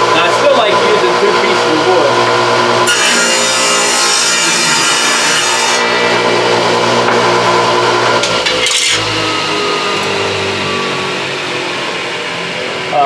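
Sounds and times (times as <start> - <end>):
saw motor whining: 0.0 - 13.0
table saw cutting wood: 0.0 - 13.0.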